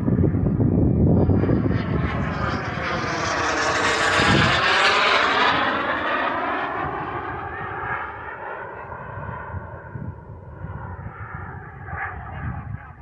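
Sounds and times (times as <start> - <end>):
model airplane engine flying past: 0.0 - 13.0.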